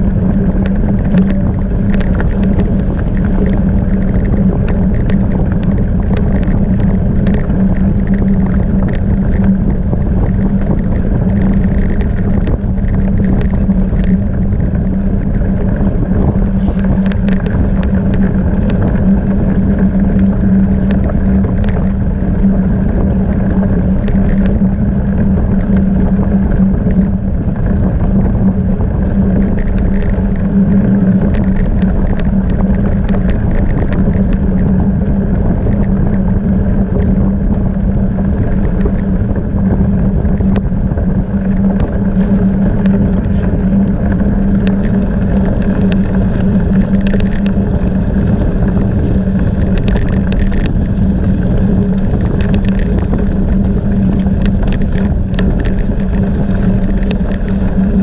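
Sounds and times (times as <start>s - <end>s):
bike riding over rough ground: 0.0s - 58.0s
small ticks and clatters: 0.0s - 58.0s
wind on microphone: 0.0s - 58.0s.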